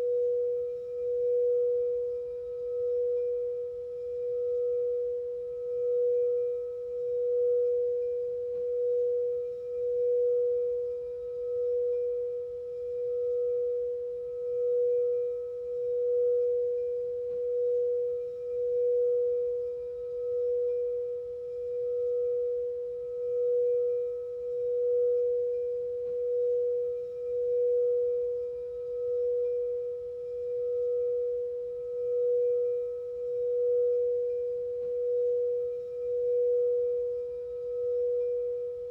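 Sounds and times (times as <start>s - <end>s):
singing bowl tone: 0.0s - 38.9s.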